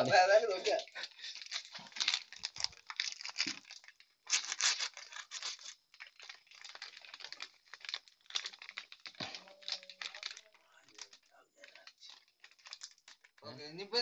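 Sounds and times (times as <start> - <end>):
plastic sachets crinkling: 0.0 - 13.6.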